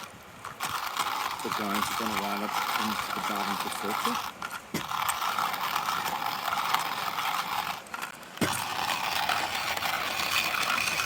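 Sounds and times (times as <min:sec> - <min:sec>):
hand coffee grinder grinding beans: 0:00.0 - 0:11.0.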